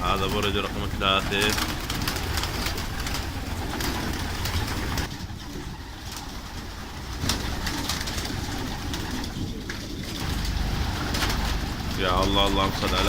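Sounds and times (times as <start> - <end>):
pigeons cooing: 0.0 - 13.0
wings fluttering and taps: 0.0 - 13.0.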